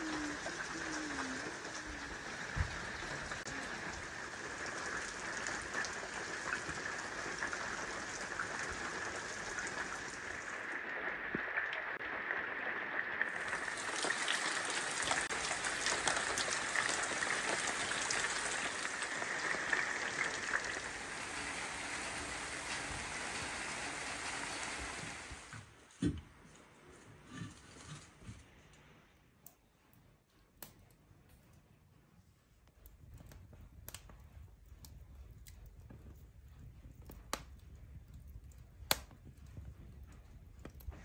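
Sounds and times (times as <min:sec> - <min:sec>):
rain falling: 0:00.0 - 0:25.6, 0:32.8 - 0:41.0
raindrops ticking on surfaces: 0:00.0 - 0:25.6, 0:32.5 - 0:41.0.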